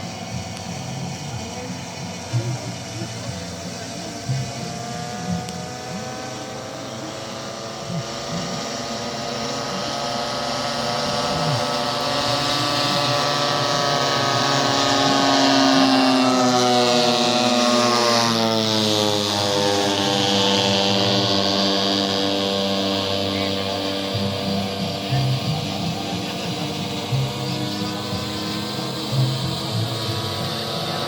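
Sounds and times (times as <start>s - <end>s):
model airplane propeller engine: 0.0s - 31.0s.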